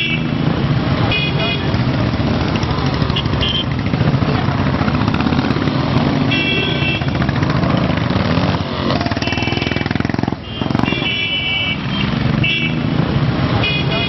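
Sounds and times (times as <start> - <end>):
motorcycles revving: 0.0 - 14.0.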